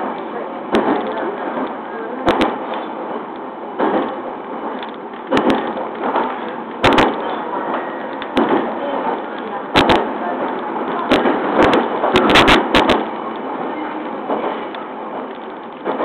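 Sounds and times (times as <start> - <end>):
train rolling noise: 0.0 - 16.0
wheels clacking over rail joints: 0.0 - 16.0.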